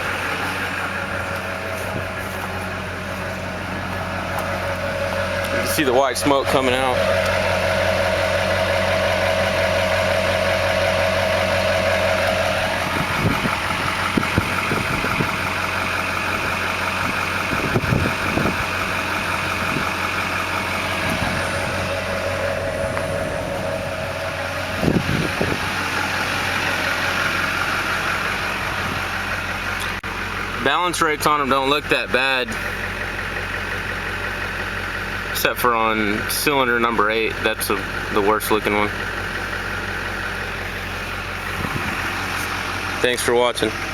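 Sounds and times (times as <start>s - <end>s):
diesel engine idling: 0.0s - 43.9s
engine knocks: 0.0s - 43.9s.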